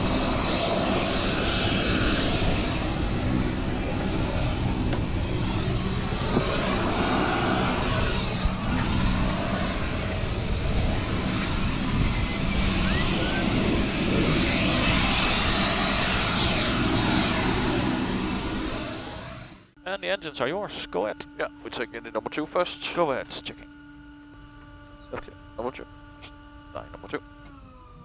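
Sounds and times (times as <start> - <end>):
engine hum: 0.0 - 28.0.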